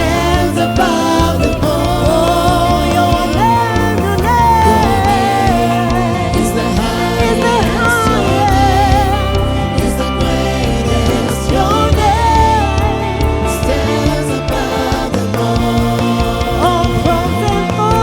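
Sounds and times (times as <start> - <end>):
full band playing: 0.0 - 18.0
gospel singing: 0.0 - 18.0.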